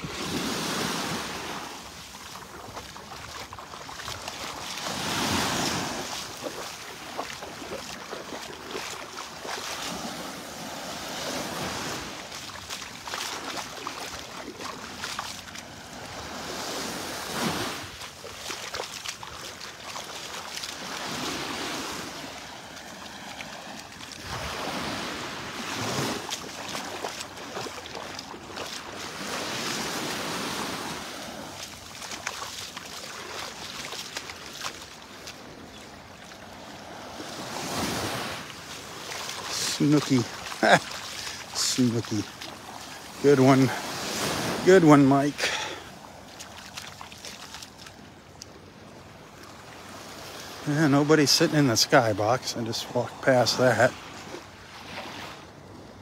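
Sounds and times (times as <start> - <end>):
small waves lapping on sandy shore: 0.0 - 56.0.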